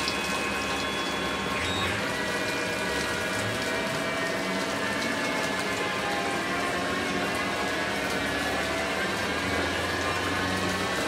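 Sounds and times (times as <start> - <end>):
coolant spraying and splashing: 0.0 - 11.0
lathe machine hum: 0.0 - 11.0.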